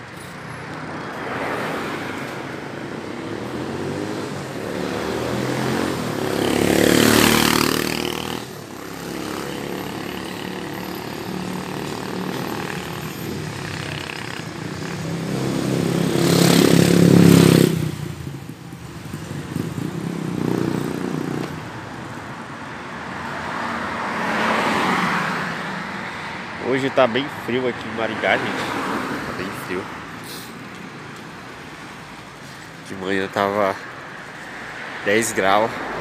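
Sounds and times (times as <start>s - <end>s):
vehicle passing: 0.0s - 22.0s, 23.0s - 36.0s
street traffic: 0.0s - 36.0s
motorcycle passing: 0.6s - 22.2s, 23.3s - 36.0s.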